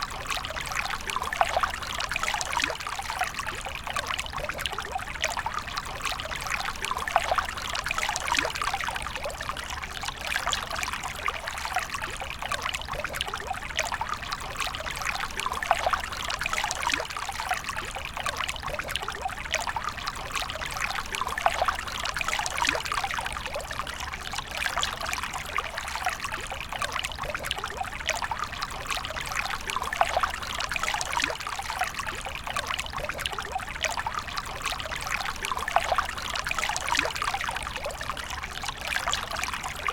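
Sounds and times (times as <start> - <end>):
water stream pouring into water: 0.0 - 39.9.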